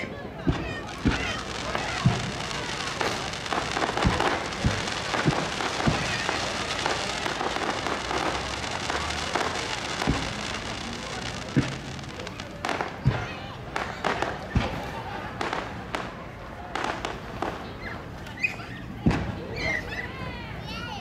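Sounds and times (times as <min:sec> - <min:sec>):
firework bangs: 0:00.0 - 0:17.8, 0:19.0 - 0:19.4
firework crackling: 0:00.0 - 0:18.2.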